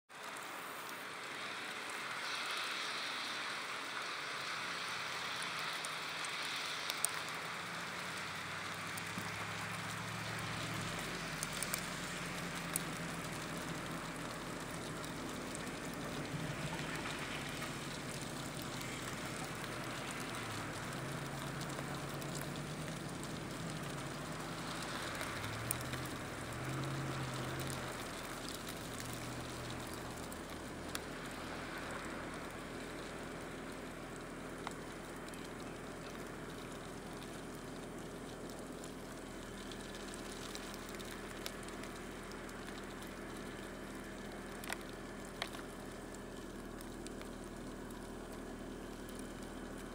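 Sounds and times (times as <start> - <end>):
steady hiss: 0.1 - 49.9.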